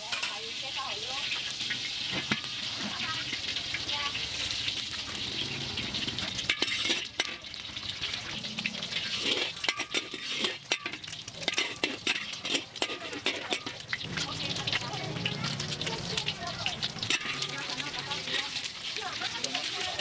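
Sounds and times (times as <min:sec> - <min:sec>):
egg sizzling in hot oil: 0:00.0 - 0:20.0
metal spatula scraping wok: 0:00.0 - 0:20.0.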